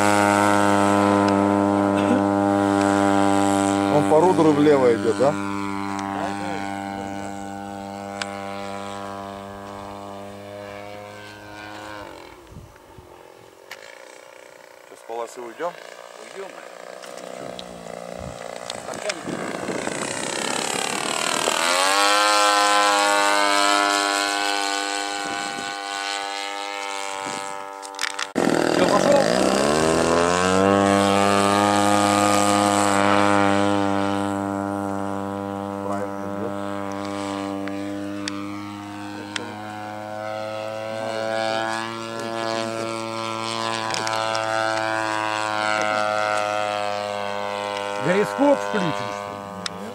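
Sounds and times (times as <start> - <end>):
model airplane motor droning: 0.0 - 49.9.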